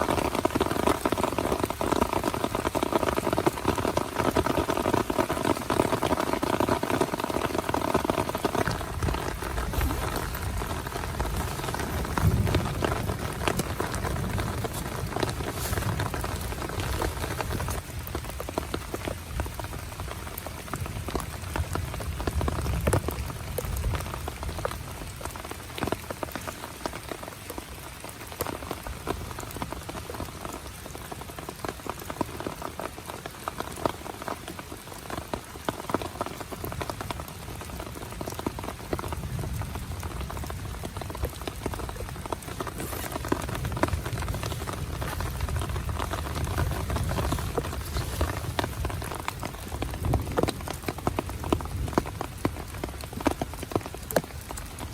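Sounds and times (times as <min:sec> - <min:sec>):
heavy rain on a tent: 0:00.0 - 0:54.9.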